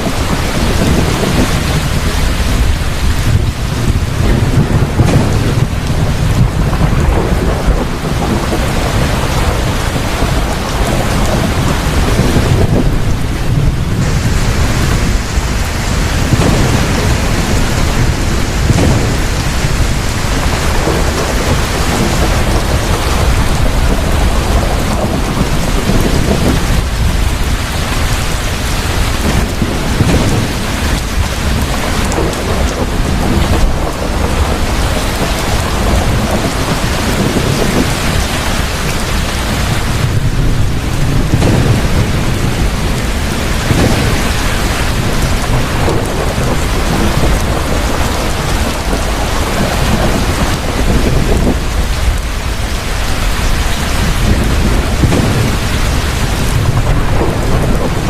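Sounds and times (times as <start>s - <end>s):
heavy rain: 0.0s - 58.0s
rolling thunder: 0.0s - 58.0s.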